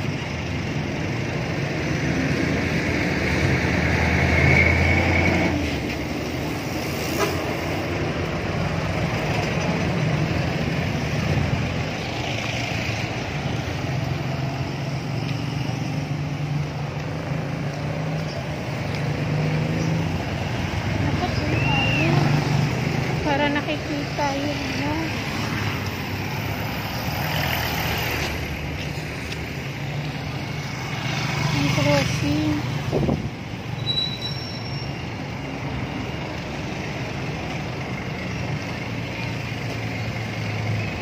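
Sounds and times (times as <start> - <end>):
vehicle engines passing by: 0.0 - 41.0.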